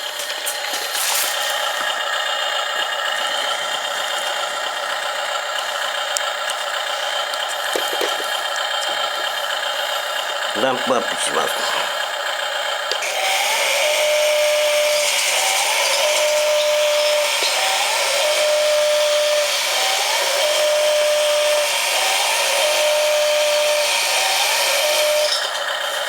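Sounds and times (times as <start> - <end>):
small electric motor whirring: 0.0 - 26.0.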